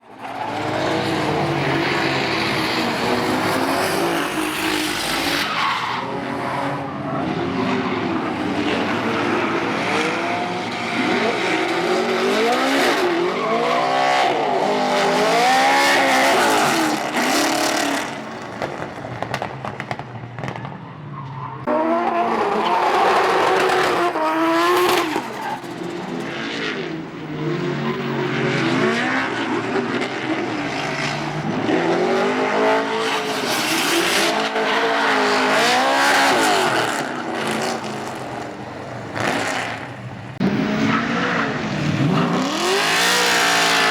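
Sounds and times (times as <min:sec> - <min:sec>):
drift car engine revving: 0:00.0 - 0:20.7, 0:21.6 - 0:43.9.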